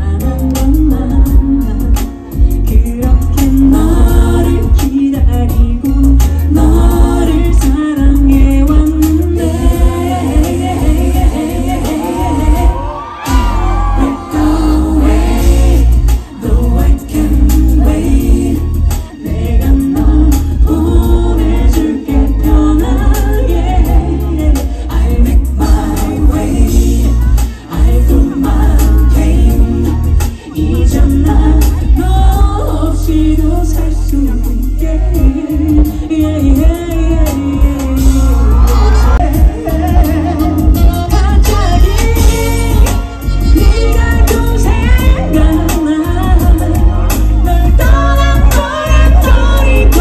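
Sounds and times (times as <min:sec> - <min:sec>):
bass and drums: 0:00.0 - 0:50.0
female vocal group singing: 0:00.0 - 0:50.0.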